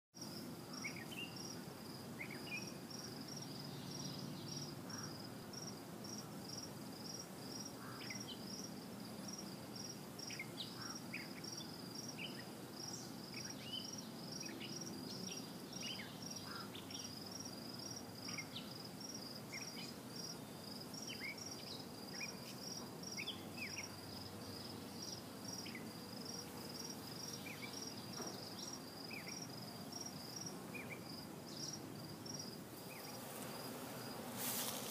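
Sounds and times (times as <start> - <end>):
high insect chirp: 0.2 - 34.9
honeybee colony humming: 0.2 - 34.9.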